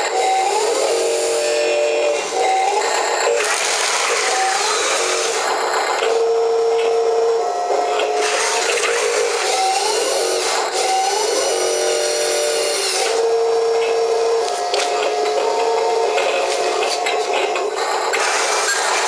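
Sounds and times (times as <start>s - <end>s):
wheel loader engine whining: 0.0s - 19.0s.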